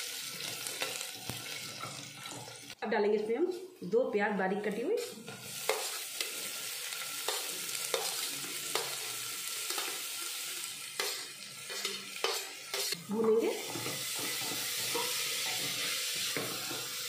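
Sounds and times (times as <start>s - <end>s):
onions sizzling in hot oil: 0.0s - 2.8s, 4.5s - 17.0s.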